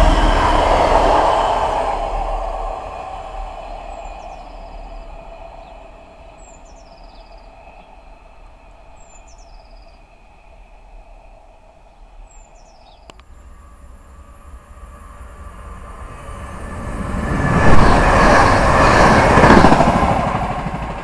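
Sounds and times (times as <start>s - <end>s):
diesel train moving away: 0.0s - 21.0s.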